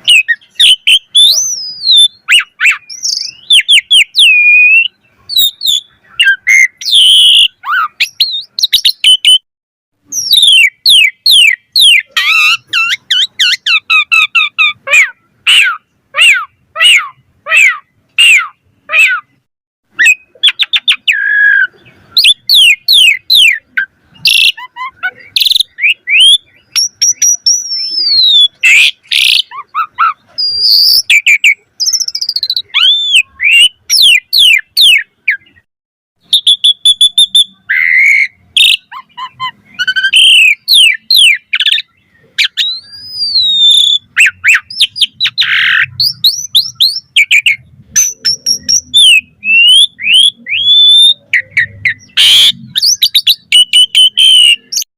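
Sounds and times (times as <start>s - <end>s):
bird singing whistles and chatter: 0.0s - 9.4s, 10.0s - 54.9s.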